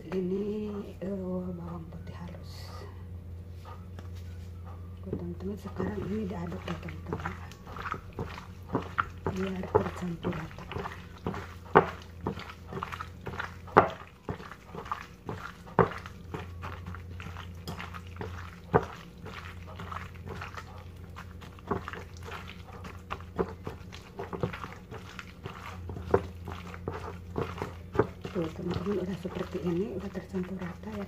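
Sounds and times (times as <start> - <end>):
steady low hum: 0.0 - 31.0
raw chicken squelching: 5.6 - 31.0.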